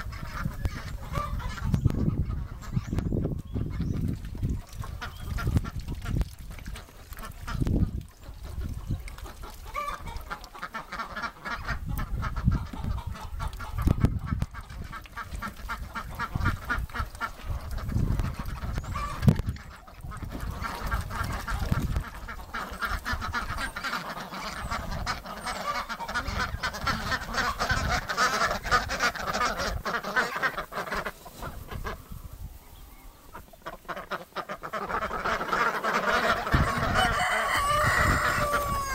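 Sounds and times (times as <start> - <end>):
ducks quacking: 0.0 - 32.4, 33.1 - 38.9.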